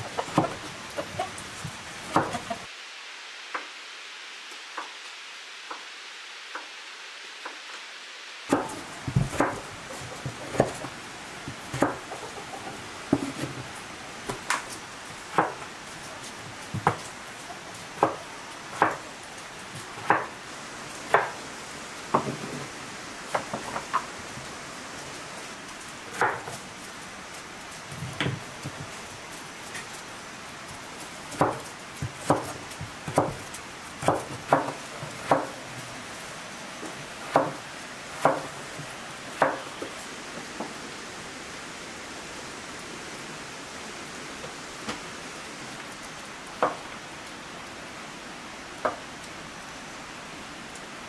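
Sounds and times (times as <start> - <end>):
steady hiss: 0.0 - 51.0.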